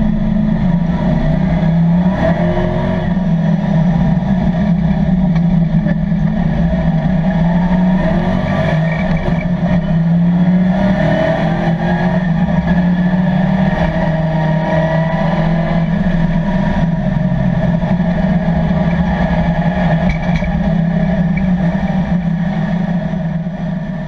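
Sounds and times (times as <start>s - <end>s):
race car engine running: 0.0s - 24.0s
road and wind noise: 0.0s - 24.0s.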